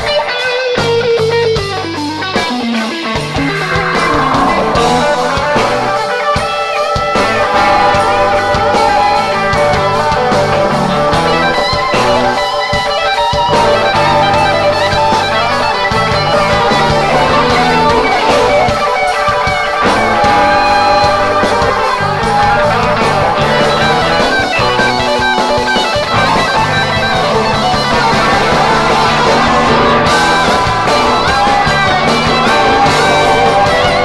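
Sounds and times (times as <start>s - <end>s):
electric guitar lead: 0.0s - 34.0s
rock band playing: 0.0s - 34.0s.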